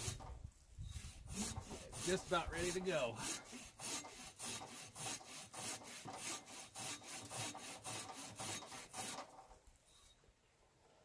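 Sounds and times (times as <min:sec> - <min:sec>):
hand saw cutting wood: 0:00.0 - 0:10.0.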